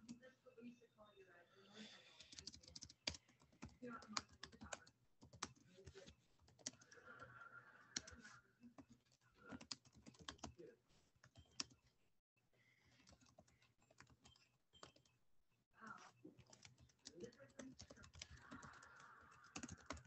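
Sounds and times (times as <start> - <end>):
faint keyboard typing: 1.9 - 12.0, 12.6 - 15.2, 15.8 - 20.0.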